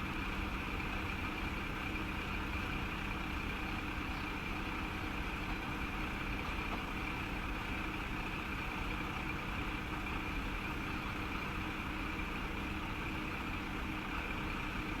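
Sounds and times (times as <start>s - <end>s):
diesel railcar engine idling: 0.0s - 15.0s.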